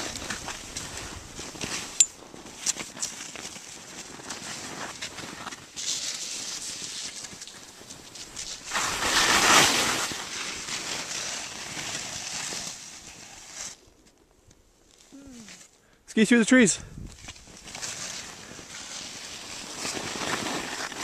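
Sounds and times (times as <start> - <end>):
skis swishing through snow: 0.0 - 14.0, 17.2 - 21.0.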